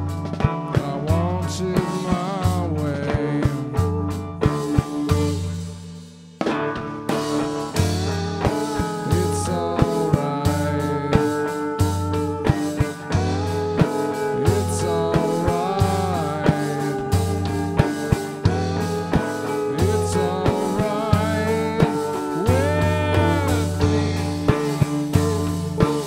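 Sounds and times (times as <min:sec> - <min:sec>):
bass line: 0:00.0 - 0:26.0
drum kit: 0:00.0 - 0:26.0
electric guitars: 0:00.0 - 0:26.0
hand frame drum: 0:00.0 - 0:26.0.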